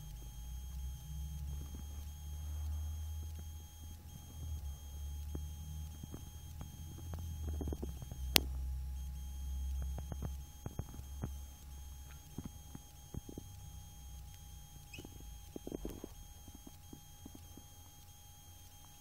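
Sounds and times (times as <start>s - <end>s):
faint electronic whine: 0.0s - 19.0s.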